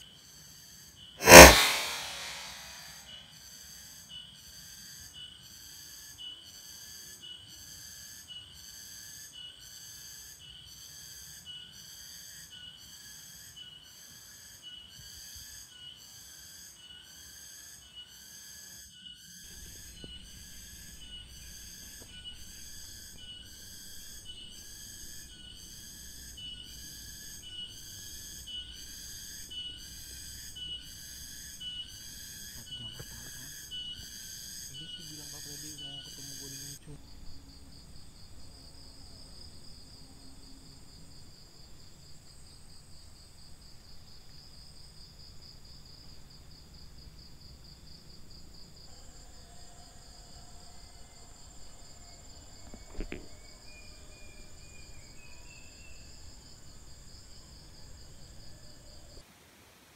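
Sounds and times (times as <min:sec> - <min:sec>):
insect chorus: 0:00.0 - 0:59.3.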